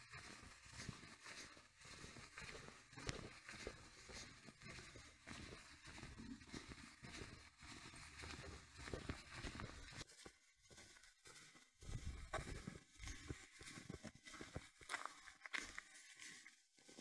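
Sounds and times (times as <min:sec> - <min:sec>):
faint footsteps on paved path: 0:00.0 - 0:17.0.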